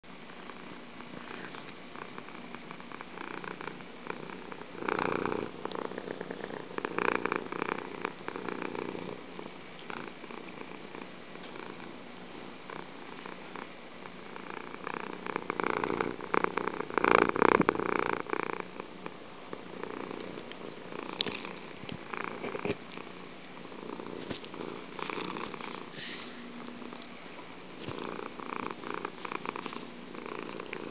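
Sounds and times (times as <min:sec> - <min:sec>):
cat purring: 0:00.3 - 0:27.1, 0:27.7 - 0:30.9.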